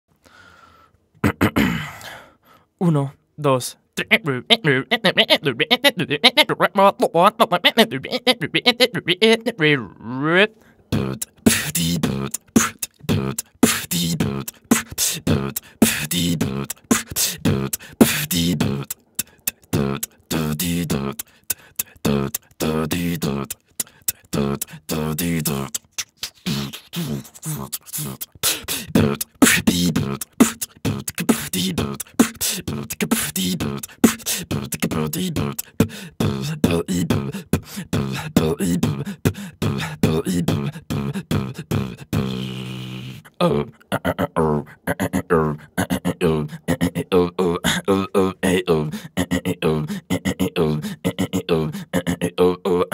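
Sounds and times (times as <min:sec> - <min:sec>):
beatboxing: 0:01.2 - 0:02.1, 0:03.5 - 0:52.9.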